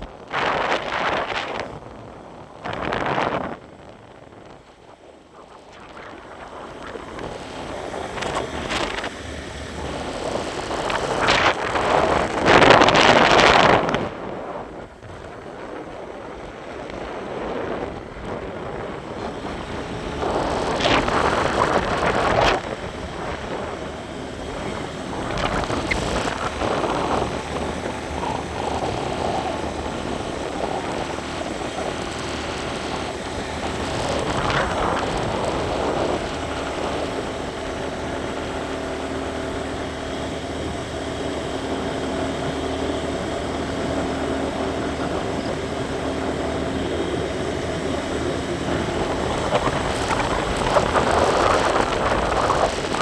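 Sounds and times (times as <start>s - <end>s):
road and wind noise: 0.0s - 53.0s
rushes of noise: 0.0s - 53.0s
vehicle engine running: 0.0s - 53.0s.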